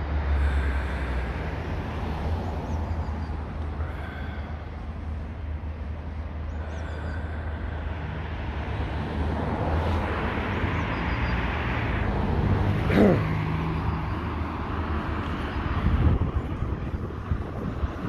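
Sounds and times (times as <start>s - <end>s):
car passing by: 0.0s - 5.6s, 6.7s - 18.0s
road traffic rumble: 0.0s - 18.0s.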